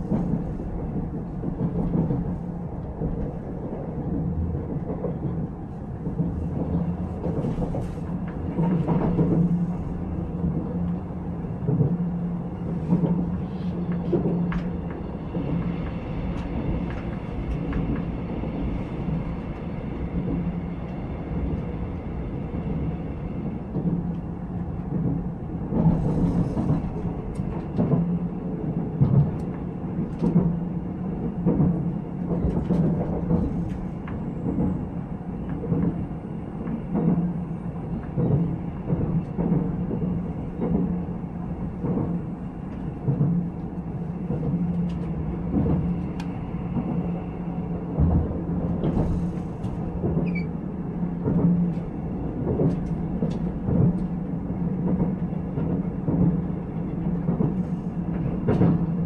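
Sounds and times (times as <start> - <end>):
train running rumble with hum: 0.0 - 59.0.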